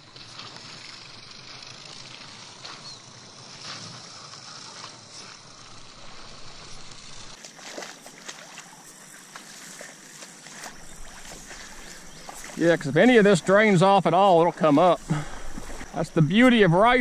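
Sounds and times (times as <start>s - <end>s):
wading in shallow water: 0.0s - 17.0s.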